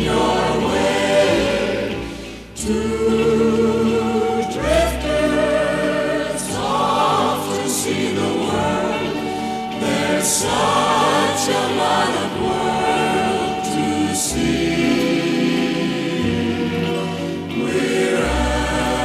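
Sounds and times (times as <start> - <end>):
choir singing held notes: 0.0 - 19.0.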